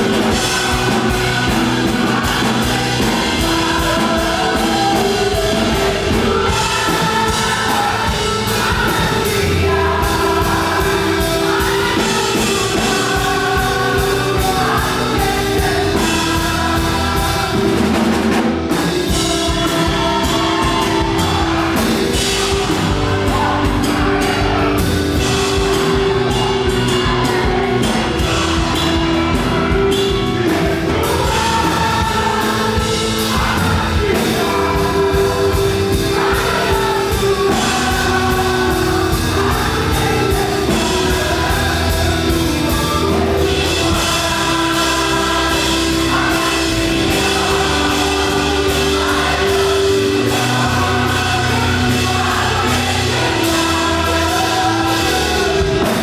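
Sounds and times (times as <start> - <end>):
band with drums: 0.0 - 56.0
voices singing together: 0.0 - 56.0.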